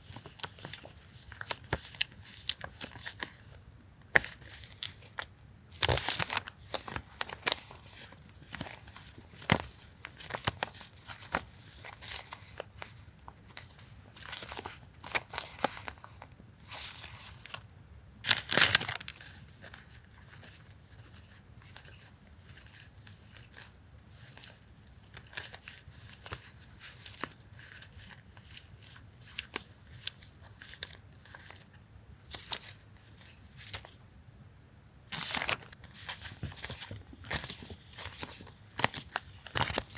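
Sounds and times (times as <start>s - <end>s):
paper crinkling and rustling: 0.0s - 17.6s, 18.2s - 34.0s, 35.1s - 39.9s.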